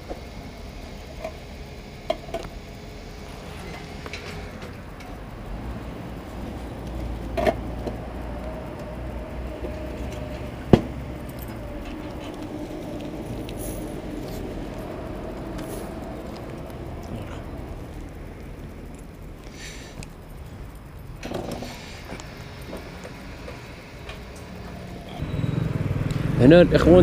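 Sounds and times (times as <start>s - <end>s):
steady low hum: 0.0s - 27.0s
small metallic clicks and clinks: 3.4s - 25.4s.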